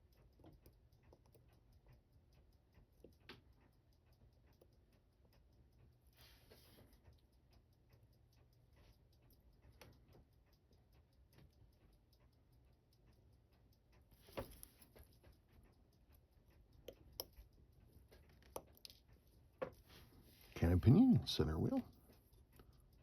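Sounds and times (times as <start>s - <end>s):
faint ticking: 0.0s - 23.0s.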